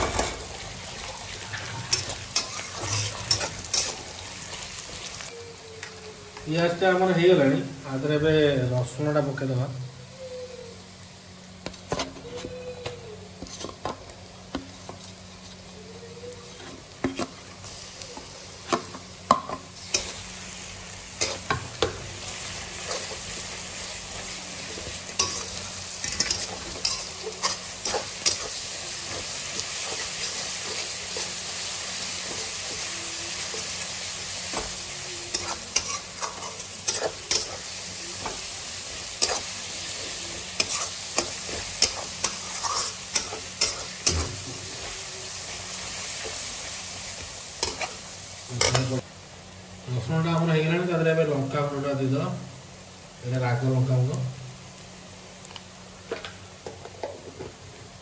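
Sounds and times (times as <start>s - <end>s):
onions frying in hot oil: 0.0s - 58.0s.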